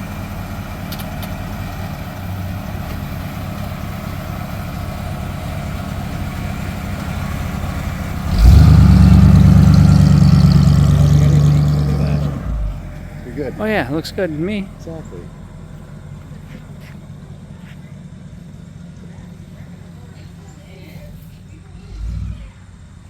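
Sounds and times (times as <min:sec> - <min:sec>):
engine idling and revving: 0:00.0 - 0:23.0.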